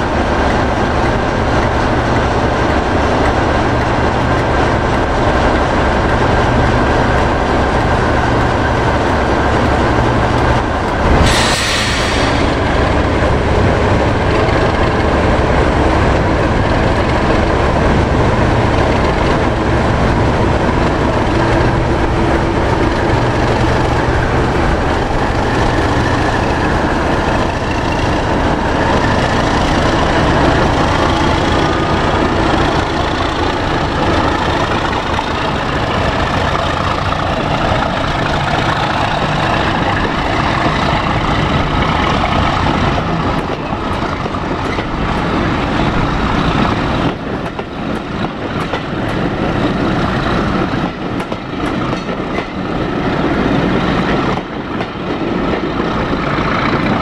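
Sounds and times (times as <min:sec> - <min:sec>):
coaches rolling on rails: 0:00.0 - 0:57.0
diesel locomotive engine: 0:00.0 - 0:57.0.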